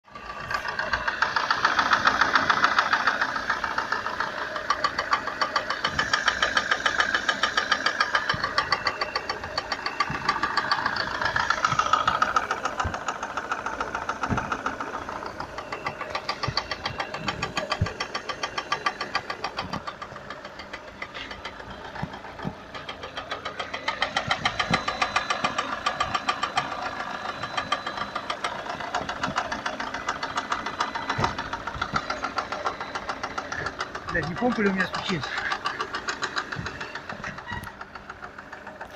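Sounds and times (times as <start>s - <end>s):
car engine knocking: 0.1s - 38.9s.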